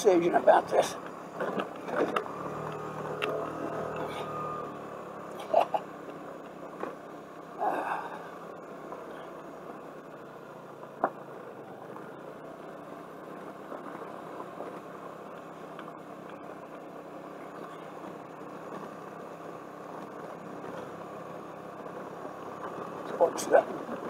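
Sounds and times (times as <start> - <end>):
scooter engine running: 0.0 - 24.0
tyres on gravel road: 0.0 - 24.0.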